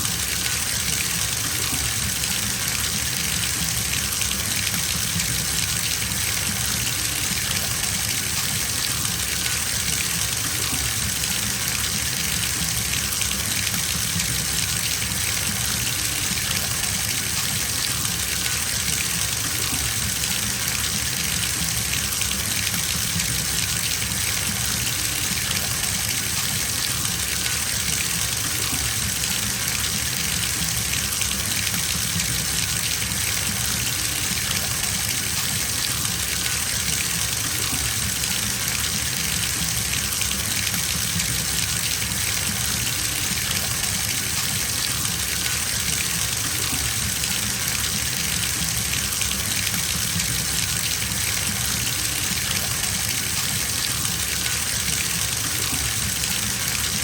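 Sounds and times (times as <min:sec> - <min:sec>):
tap water filling bathtub: 0:00.0 - 0:57.0.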